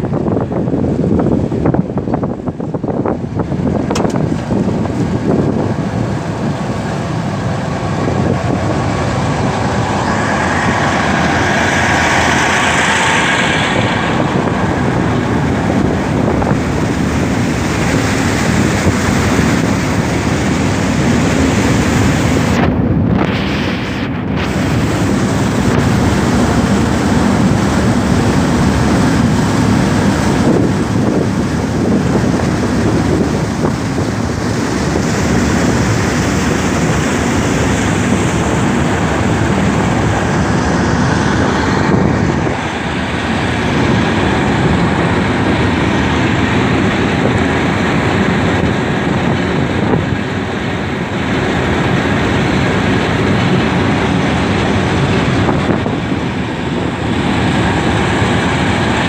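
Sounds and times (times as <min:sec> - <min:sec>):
boat engine droning: 0:00.0 - 0:59.0
rushing water noise: 0:00.0 - 0:59.0.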